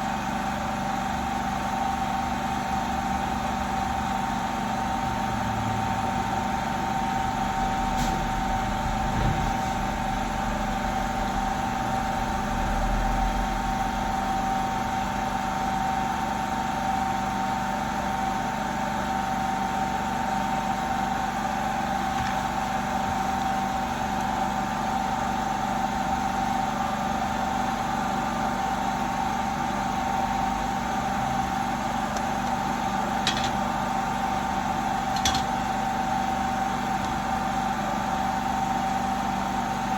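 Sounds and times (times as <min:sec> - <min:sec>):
electric machine humming and whining: 0:00.8 - 0:39.8.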